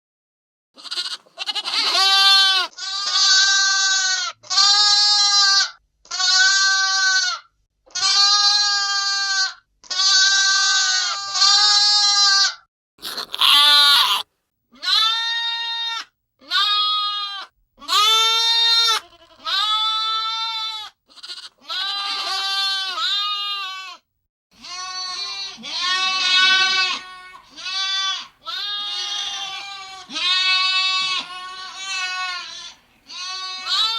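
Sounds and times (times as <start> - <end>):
lambs bleating: 0.8 - 24.0, 24.6 - 33.9.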